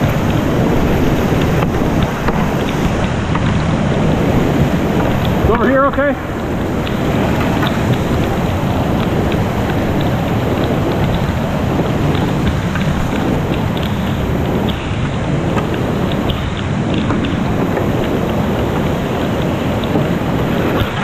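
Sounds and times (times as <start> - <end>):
rushing whitewater: 0.0 - 21.0.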